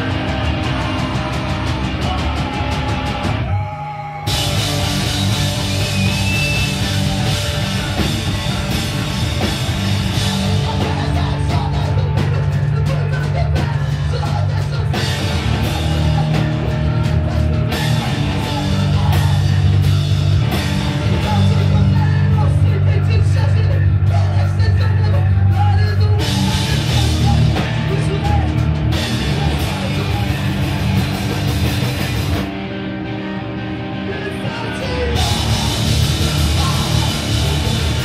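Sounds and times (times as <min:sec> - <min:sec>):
punk band playing live: 0:00.0 - 0:38.0.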